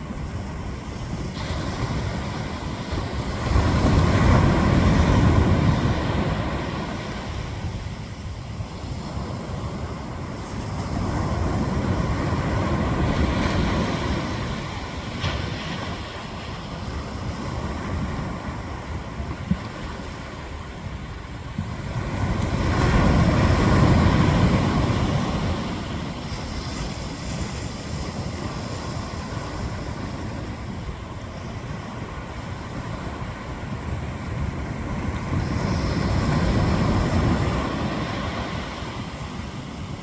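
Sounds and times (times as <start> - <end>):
ocean surf washing onto beach: 0.0 - 40.0
waves breaking: 0.0 - 40.0.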